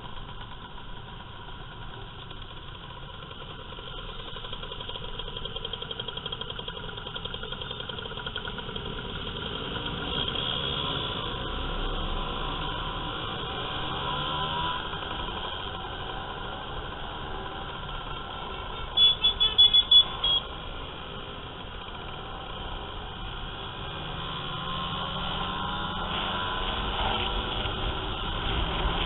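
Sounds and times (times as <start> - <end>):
motor scooter engines running: 0.0 - 29.0
road and wind noise: 0.0 - 29.0.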